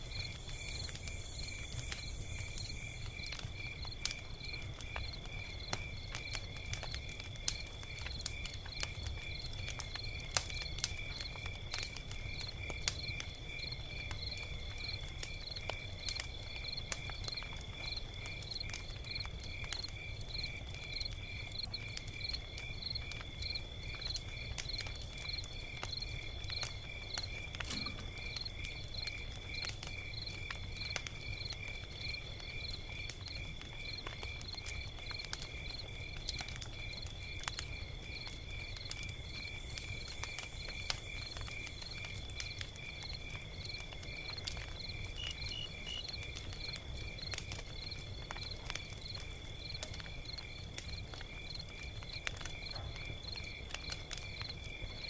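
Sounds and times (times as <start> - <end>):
log fire crackling: 0.0 - 55.0.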